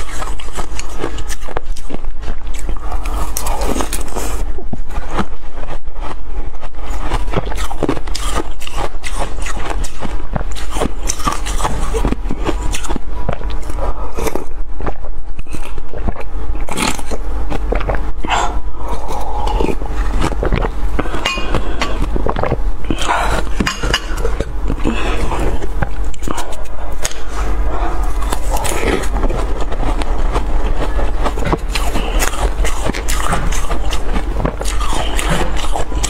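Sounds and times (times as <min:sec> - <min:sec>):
chewing and crunching: 0:00.0 - 0:36.0
low steady hum: 0:00.0 - 0:36.0.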